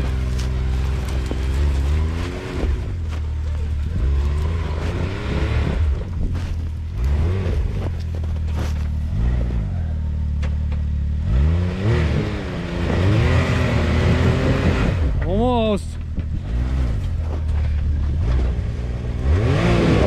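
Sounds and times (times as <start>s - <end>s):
engine revving: 0.0s - 15.3s, 16.2s - 20.0s.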